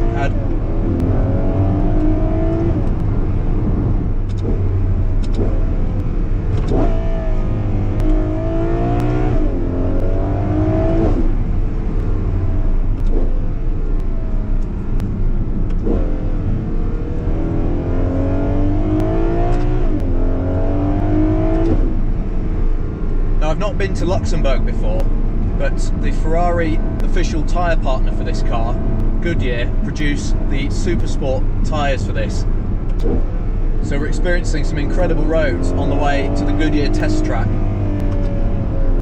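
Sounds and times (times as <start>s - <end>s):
car engine accelerating hard: 0.0s - 39.0s.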